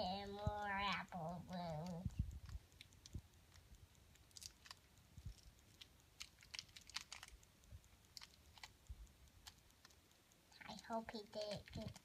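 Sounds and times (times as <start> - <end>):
plastic wrapper crinkling: 0.0 - 12.0
small clicks: 0.0 - 12.0.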